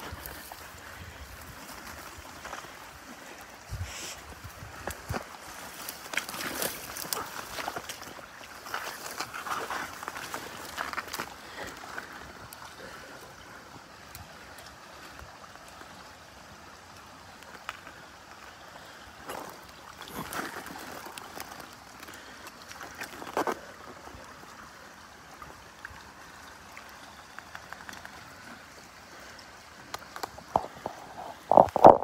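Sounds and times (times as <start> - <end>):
river water running and gurgling: 0.0 - 32.0
water splashes: 0.0 - 32.0.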